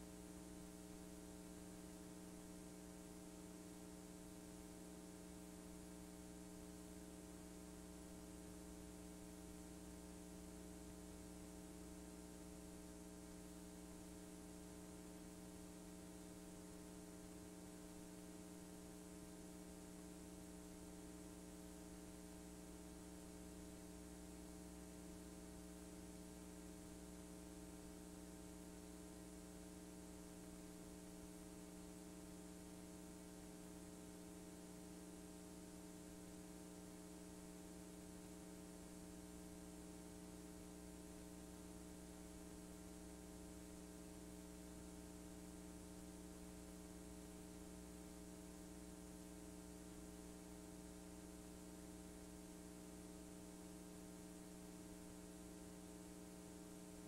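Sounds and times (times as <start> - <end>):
electrical hum with hiss: 0.0 - 57.0.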